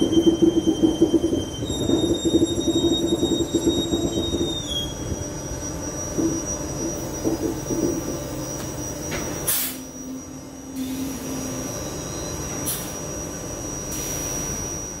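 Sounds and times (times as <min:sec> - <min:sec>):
high whine: 0:00.0 - 0:15.0
train rumbling past: 0:00.0 - 0:15.0.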